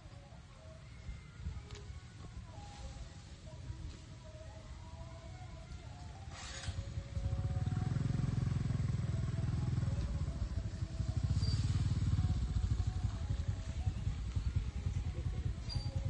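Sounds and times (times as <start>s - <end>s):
vehicle engine rumbling: 1.3s - 16.0s.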